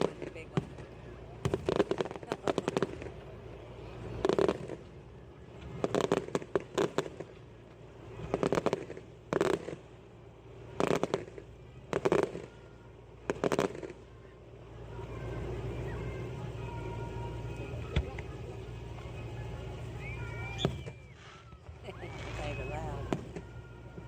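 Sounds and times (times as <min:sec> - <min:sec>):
fireworks crackling pops: 0:00.0 - 0:14.3, 0:15.1 - 0:24.0
low rumble: 0:00.0 - 0:24.0.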